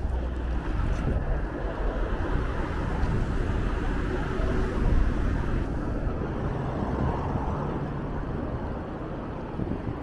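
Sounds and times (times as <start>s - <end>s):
city traffic: 0.0s - 10.0s
wind and road noise: 0.0s - 10.0s.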